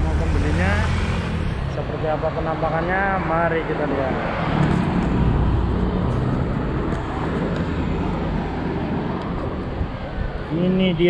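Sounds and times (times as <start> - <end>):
road traffic rushing: 0.0 - 11.0.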